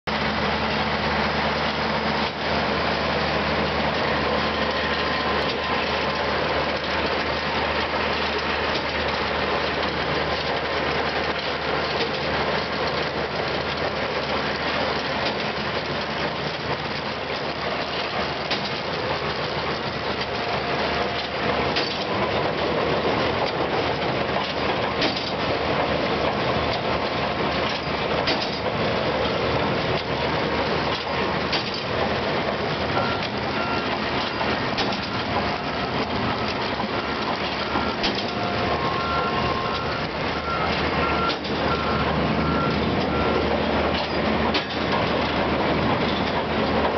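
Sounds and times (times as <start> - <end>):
tractor engine running: 0.0 - 46.9
baler mechanical clatter: 0.1 - 46.9.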